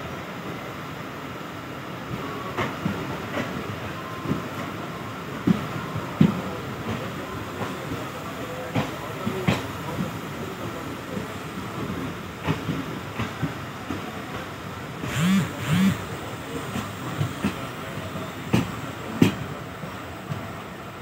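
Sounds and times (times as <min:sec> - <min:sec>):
train wheels rumbling on rails: 0:00.1 - 0:21.0.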